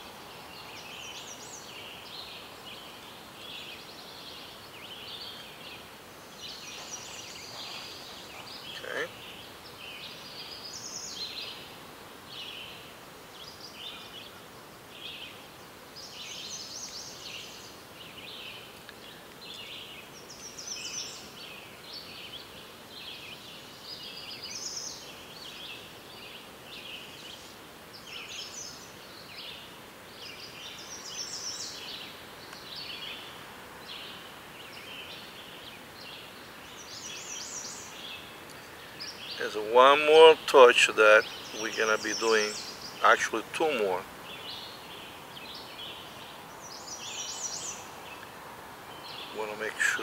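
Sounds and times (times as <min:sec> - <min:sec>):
small birds chirping: 0:00.0 - 0:50.0
steady hiss: 0:00.0 - 0:50.0.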